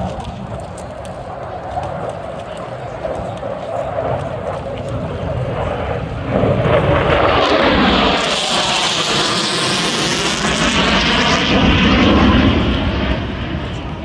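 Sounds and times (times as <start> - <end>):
fighter jet engine roaring: 0.0 - 14.0.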